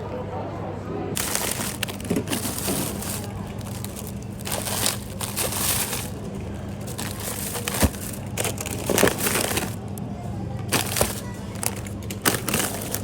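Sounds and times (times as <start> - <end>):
plastic packaging crinkling: 1.2 - 10.0, 10.7 - 13.0.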